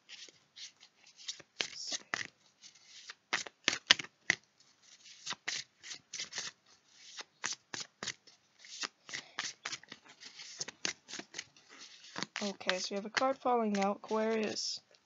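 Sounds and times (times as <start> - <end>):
cards being shuffled: 0.0 - 14.8.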